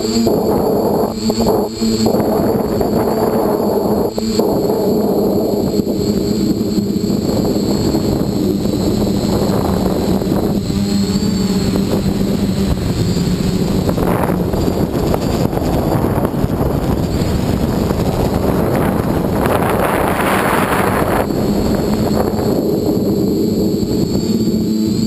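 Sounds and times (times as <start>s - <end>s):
air rushing on microphone: 0.0s - 24.3s
quadcopter motors whining: 0.0s - 25.0s.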